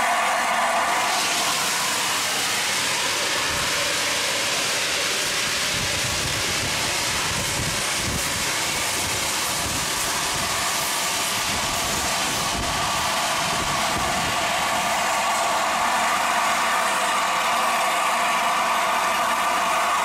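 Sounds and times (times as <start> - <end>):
steam train hissing: 0.0 - 20.0.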